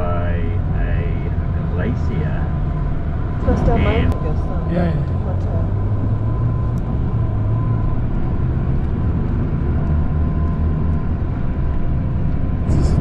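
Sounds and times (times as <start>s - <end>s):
coach engine drone: 0.0s - 13.0s
road noise: 0.0s - 13.0s.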